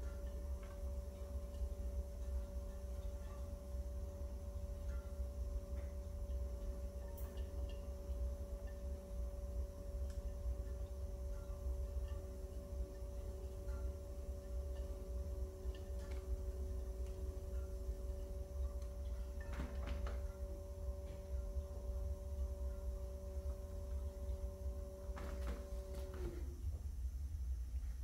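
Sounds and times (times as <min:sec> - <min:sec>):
pottery wheel motor hum: 0:00.0 - 0:28.0.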